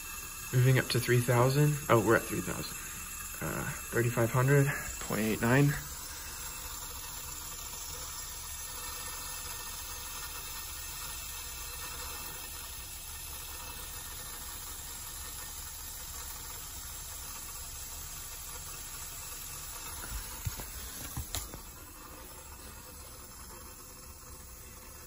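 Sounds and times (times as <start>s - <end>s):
water hissing through tubing: 0.0s - 25.0s.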